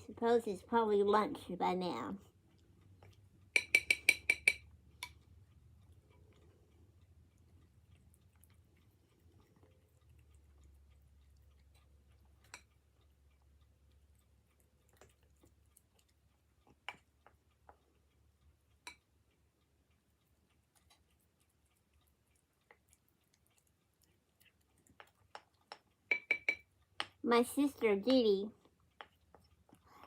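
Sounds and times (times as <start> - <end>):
cat chewing and licking food: 0.0 - 30.0.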